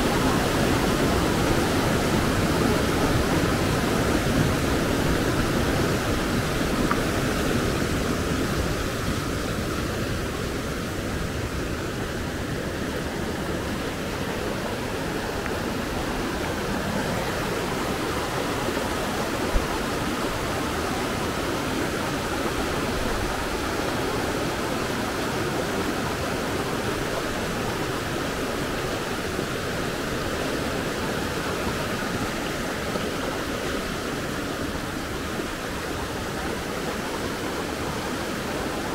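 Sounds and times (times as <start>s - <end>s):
water rushing over boulders: 0.0s - 38.9s.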